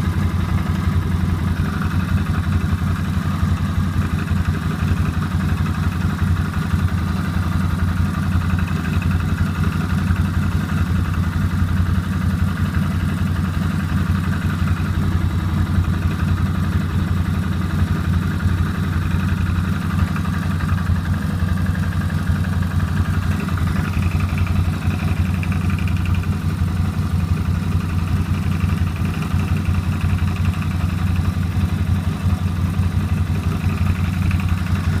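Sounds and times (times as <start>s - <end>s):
atv engine idling: 0.0s - 35.0s
engine knocking: 0.0s - 35.0s.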